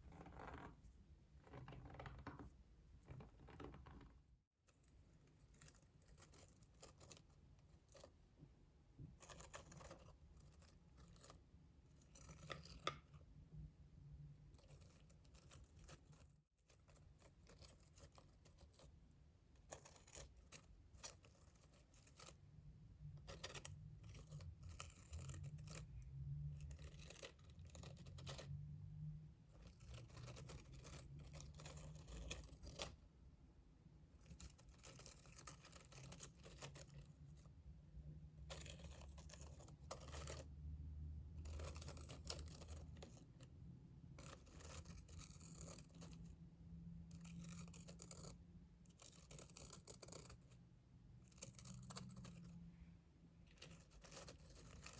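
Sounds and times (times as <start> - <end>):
soft scratching: 0.0 - 8.3, 9.0 - 13.3, 14.4 - 33.1, 34.1 - 54.9.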